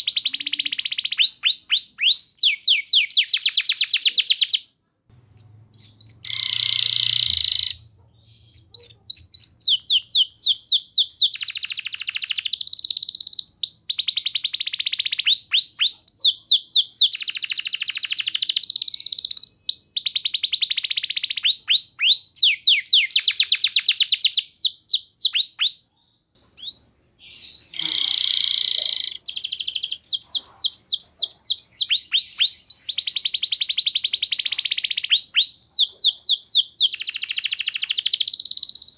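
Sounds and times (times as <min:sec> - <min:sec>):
canary singing trills: 0:00.0 - 0:04.7, 0:05.3 - 0:38.9.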